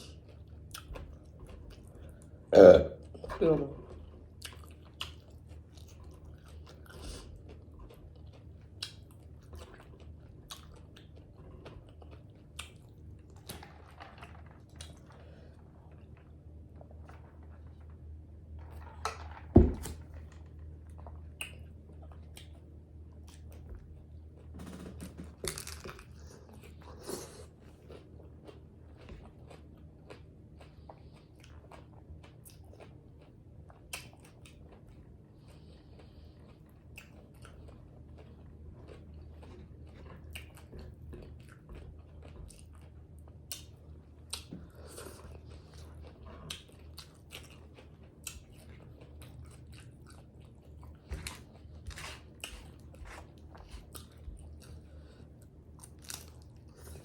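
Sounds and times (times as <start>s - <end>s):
person chewing crunchy food: 3.9s - 57.0s.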